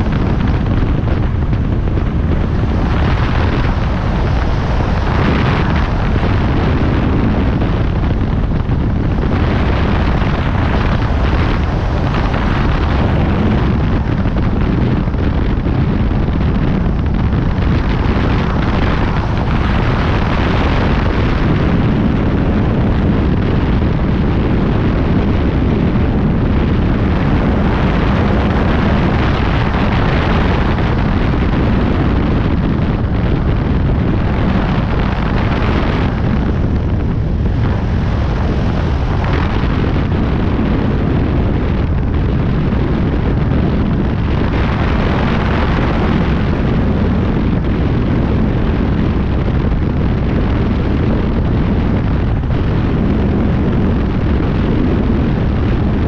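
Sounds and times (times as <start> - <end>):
propeller plane engine: 0.0 - 56.0
wind buffeting microphone: 0.0 - 56.0.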